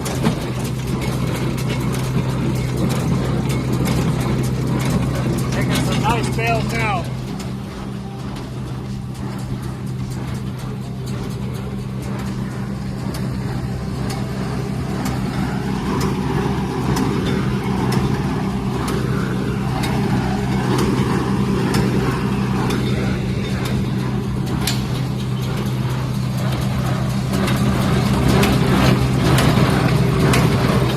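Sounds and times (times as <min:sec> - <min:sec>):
baler clicking and clattering: 0:00.0 - 0:30.9
tractor engine running: 0:00.0 - 0:30.9.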